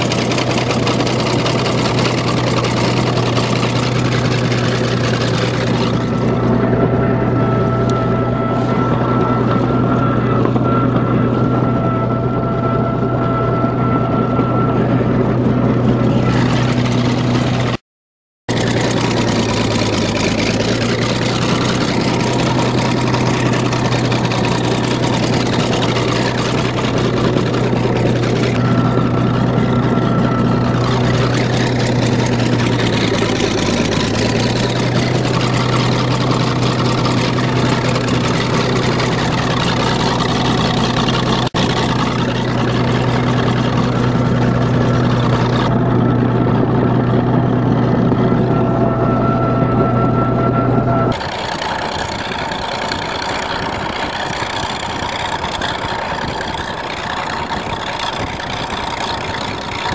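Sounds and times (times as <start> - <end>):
bulldozer engine running: 0.0 - 17.8, 18.5 - 59.9.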